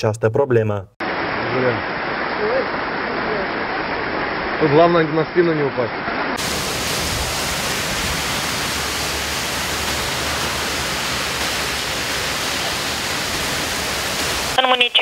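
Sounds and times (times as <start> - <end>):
fast-flowing floodwater: 1.0 - 15.0
torrential rain: 1.0 - 15.0.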